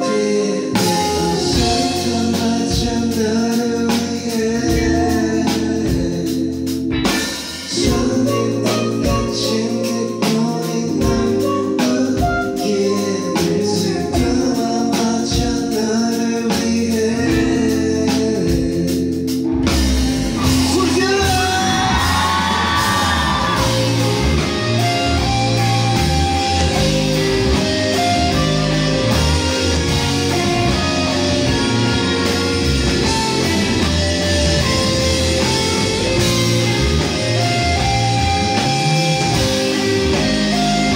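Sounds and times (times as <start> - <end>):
drum kit: 0.0 - 40.9
electric bass: 0.0 - 40.9
live band music: 0.0 - 40.9.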